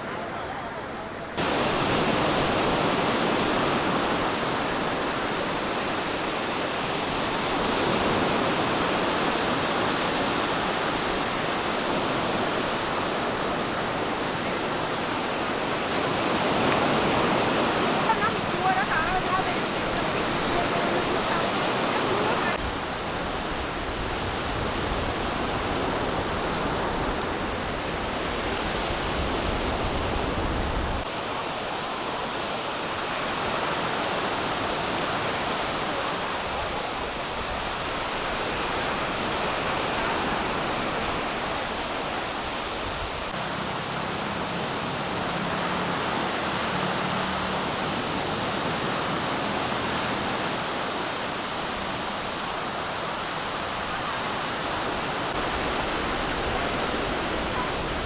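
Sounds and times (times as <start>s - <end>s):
beach surf: 0.0s - 58.0s
wind: 0.0s - 58.0s.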